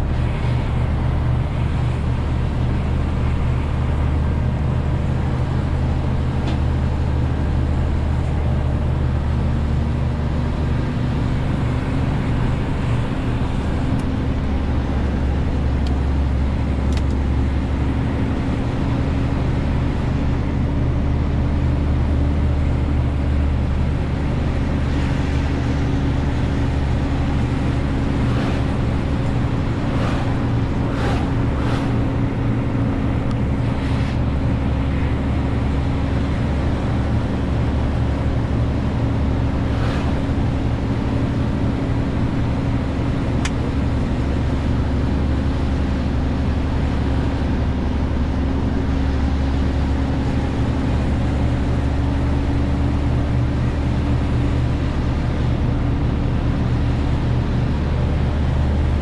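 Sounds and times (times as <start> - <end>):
road noise: 0.0 - 59.0
truck diesel engine droning: 0.0 - 59.0.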